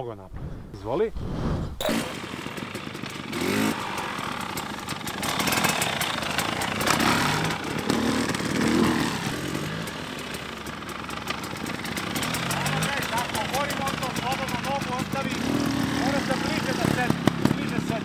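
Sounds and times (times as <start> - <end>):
dirt bike engine revving: 1.8 - 18.0.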